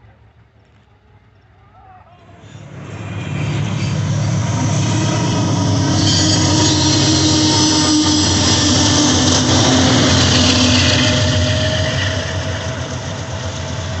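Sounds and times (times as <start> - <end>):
train wheels on rails: 2.1 - 14.0
wheel squeal: 2.4 - 14.0.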